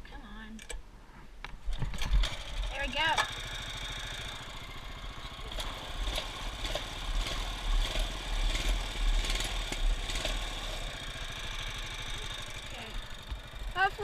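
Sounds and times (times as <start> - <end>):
small engine running unevenly: 1.8 - 14.0.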